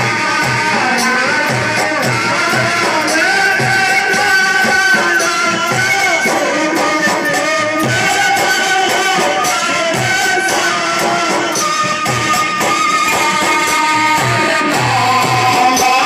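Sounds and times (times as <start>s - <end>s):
frame drums beating: 0.0s - 16.0s
flute melody: 1.9s - 16.0s.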